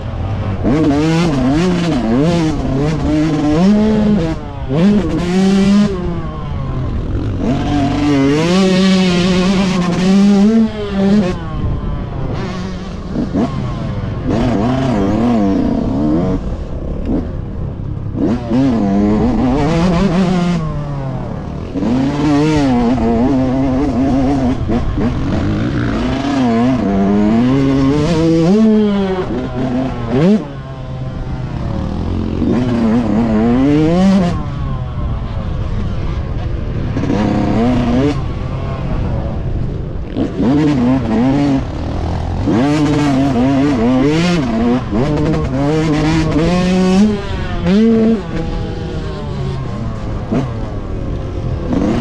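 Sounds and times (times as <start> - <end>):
two-stroke motocross engine revving: 0.0 - 52.0.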